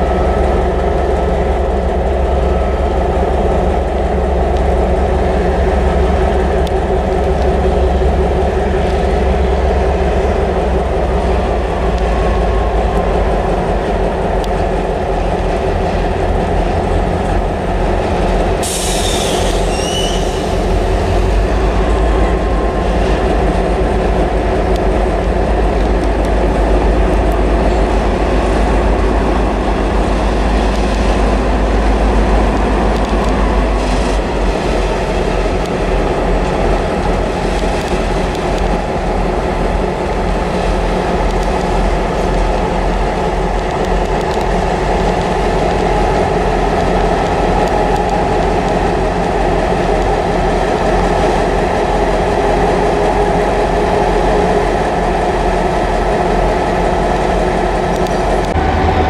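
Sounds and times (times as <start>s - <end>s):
diesel locomotive droning: 0.0s - 59.0s.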